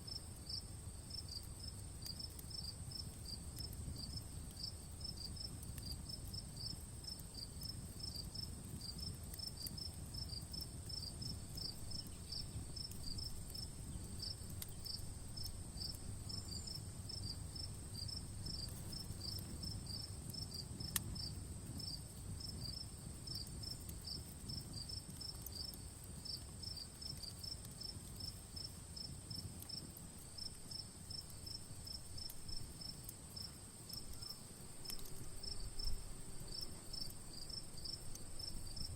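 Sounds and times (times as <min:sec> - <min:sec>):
campfire crackling: 0:00.0 - 0:38.9
insects chirping: 0:00.1 - 0:38.9.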